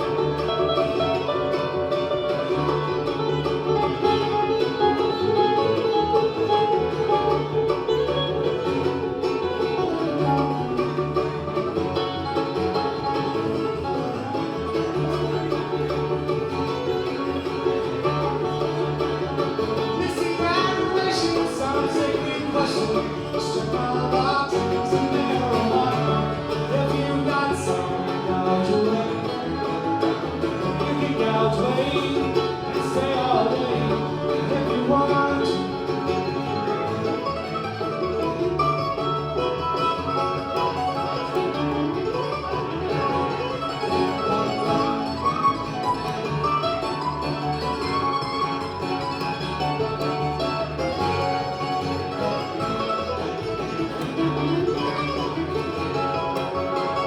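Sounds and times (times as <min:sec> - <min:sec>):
acoustic bluegrass band playing: 0:00.0 - 0:57.0.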